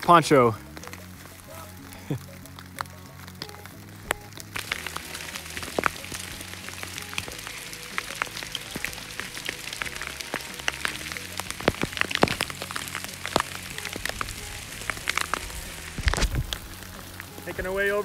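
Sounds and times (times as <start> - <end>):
rain and hail ticking: 0.0 - 18.0
soft background music: 0.0 - 18.0.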